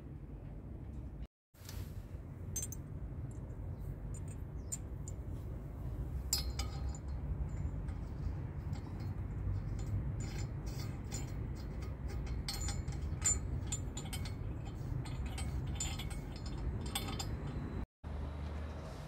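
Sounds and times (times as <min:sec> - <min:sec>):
steady low rumble: 0:00.0 - 0:17.8.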